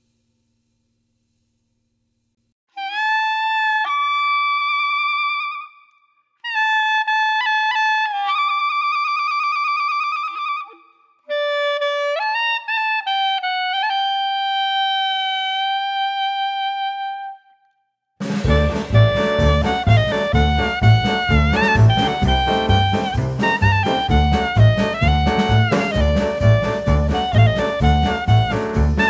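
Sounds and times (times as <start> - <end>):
slow clarinet-like melody: 2.7 - 17.8, 18.4 - 29.0.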